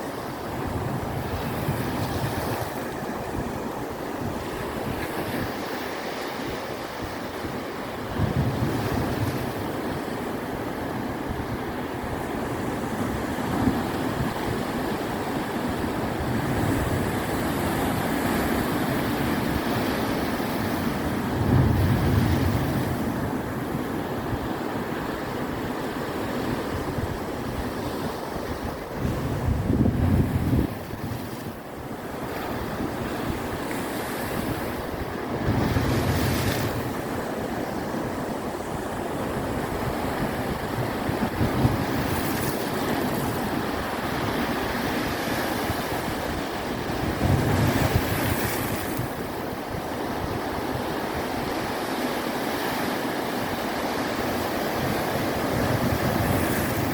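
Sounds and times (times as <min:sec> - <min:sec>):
sea waves breaking on shore: 0:00.0 - 0:56.9
wind buffeting microphone: 0:00.0 - 0:56.9.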